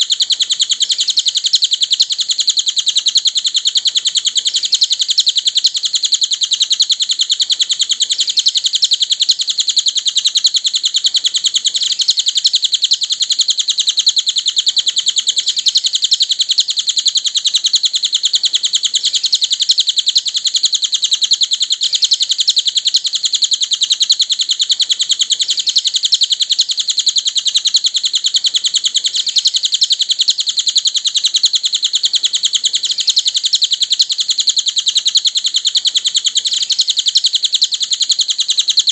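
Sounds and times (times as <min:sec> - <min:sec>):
songbird chirping: 0:00.0 - 0:38.9.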